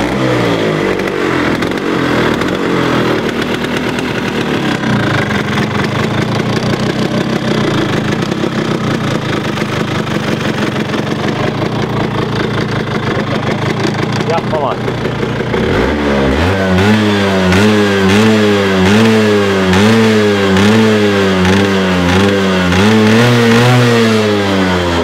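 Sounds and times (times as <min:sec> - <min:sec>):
scooter engine revving and idling: 0:00.0 - 0:25.0.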